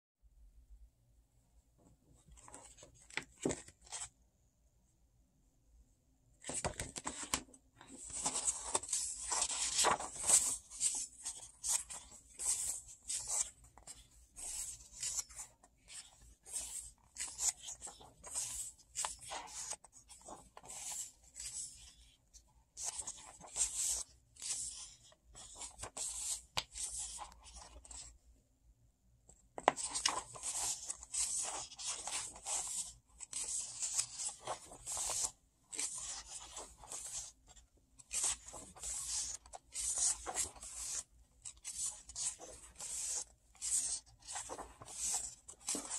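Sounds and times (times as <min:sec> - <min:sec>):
book pages rustling: 0:01.8 - 0:04.2, 0:06.4 - 0:22.0, 0:22.6 - 0:28.2, 0:29.5 - 0:45.9.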